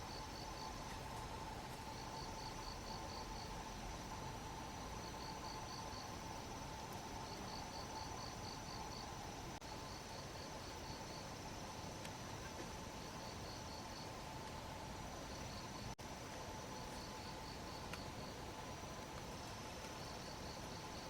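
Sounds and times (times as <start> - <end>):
insects chirping: 0.0 - 21.0
steady hum and hiss: 0.0 - 21.0.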